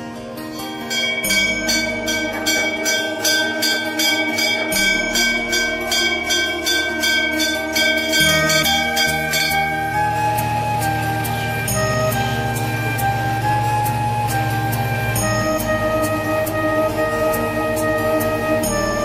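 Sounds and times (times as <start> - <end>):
background music: 0.0 - 19.0
brass bell ringing: 0.0 - 19.0.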